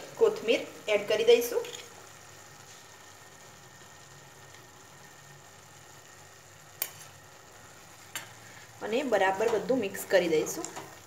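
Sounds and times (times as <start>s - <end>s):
faint low hum with hiss: 0.0s - 11.0s.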